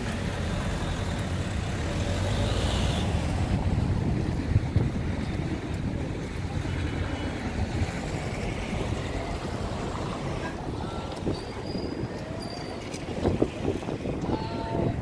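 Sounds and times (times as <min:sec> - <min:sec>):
wind buffeting microphone: 0:01.2 - 0:15.0.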